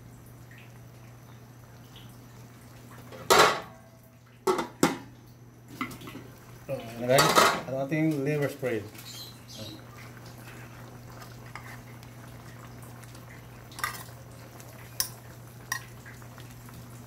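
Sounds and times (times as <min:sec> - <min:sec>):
stew simmering: 0:00.0 - 0:17.0.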